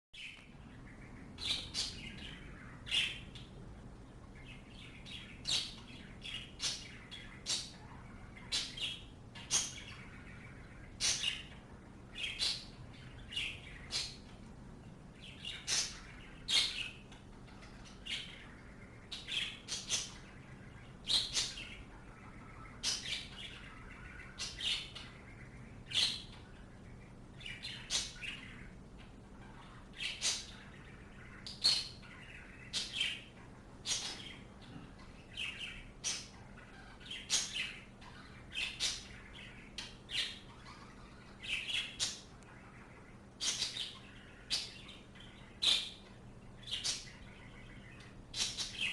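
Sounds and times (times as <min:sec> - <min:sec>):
faint low hum: 0:00.2 - 0:48.9
small birds chirping: 0:00.2 - 0:48.9.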